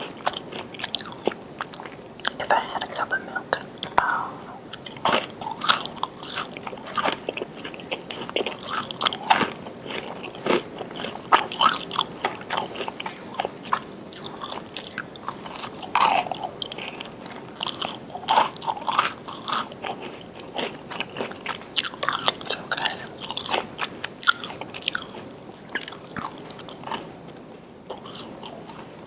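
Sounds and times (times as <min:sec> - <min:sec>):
person chewing crunchy cookie: 0:00.0 - 0:29.0.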